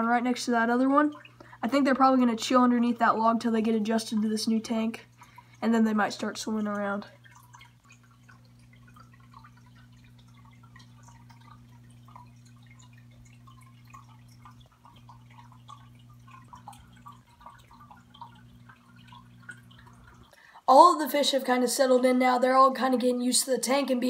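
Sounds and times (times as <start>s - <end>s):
faint motor hum: 0.0s - 24.0s
water trickling and splashing: 0.0s - 24.0s.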